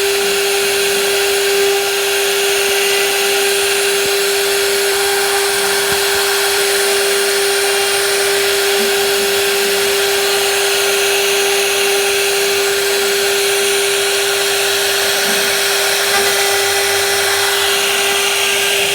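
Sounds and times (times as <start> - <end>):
hiss of cutting noise: 0.0 - 18.9
wood router high whine: 0.0 - 18.9.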